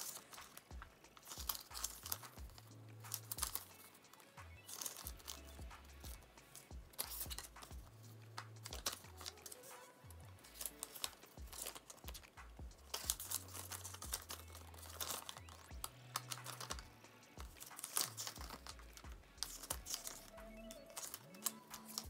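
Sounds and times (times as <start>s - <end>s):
paper sheets rustling: 0.0s - 22.0s
quiet background music: 0.0s - 22.0s.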